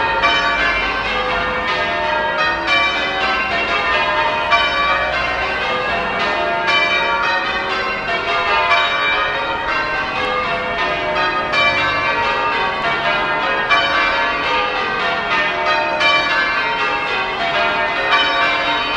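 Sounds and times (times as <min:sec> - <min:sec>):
church bells change ringing: 0:00.0 - 0:18.9.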